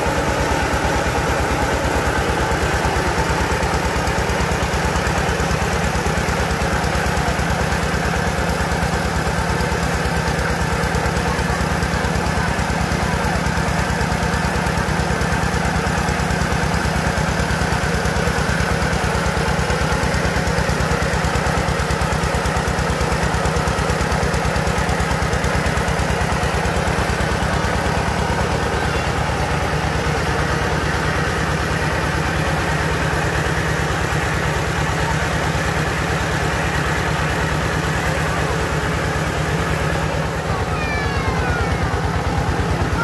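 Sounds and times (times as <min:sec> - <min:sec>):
rice mill engine running: 0:00.0 - 0:43.0.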